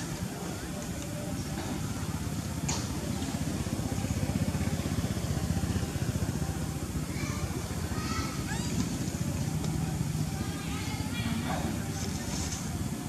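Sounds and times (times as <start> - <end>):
engine pulsing rumble: 0.0 - 13.0.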